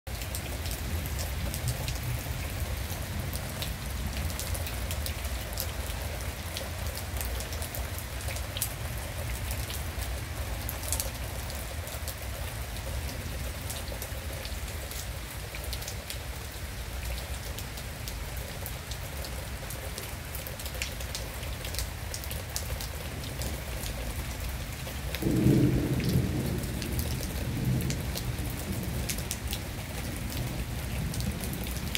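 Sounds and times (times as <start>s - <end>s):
heavy rain pouring: 0.1s - 31.9s.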